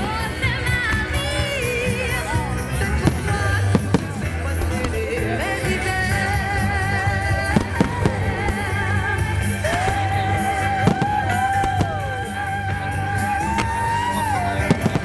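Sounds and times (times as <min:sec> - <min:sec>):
loud music with bass: 0:00.0 - 0:15.0
person singing long notes: 0:00.0 - 0:15.0
fireworks bangs: 0:02.8 - 0:15.0.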